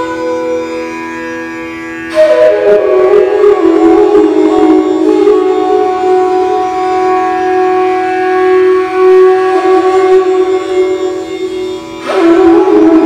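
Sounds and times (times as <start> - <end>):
bamboo flute note: 0.0 - 13.0.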